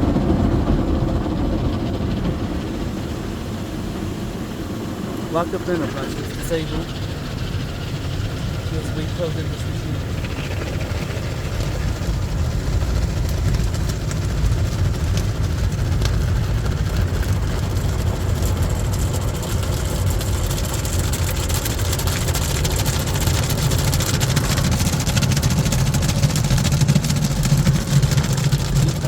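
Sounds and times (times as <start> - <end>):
car wash machinery rumble: 0.0 - 29.0.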